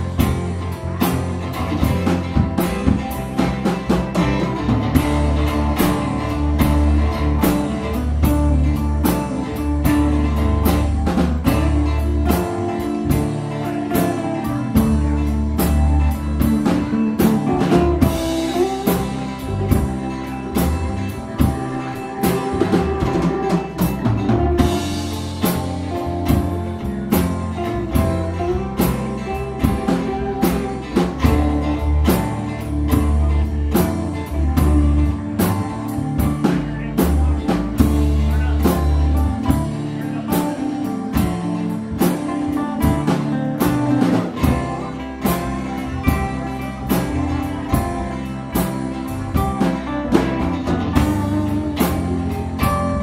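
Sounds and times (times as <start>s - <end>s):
blues band playing: 0.0s - 53.0s.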